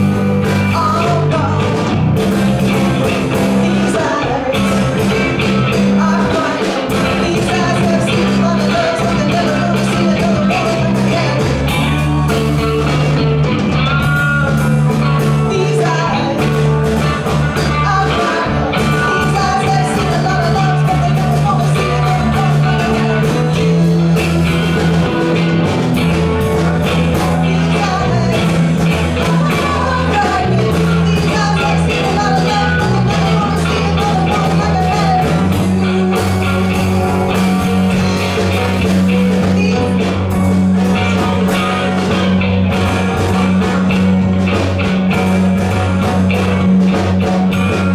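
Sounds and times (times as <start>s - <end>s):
live rock band playing: 0.0s - 47.9s
person singing: 0.0s - 47.9s.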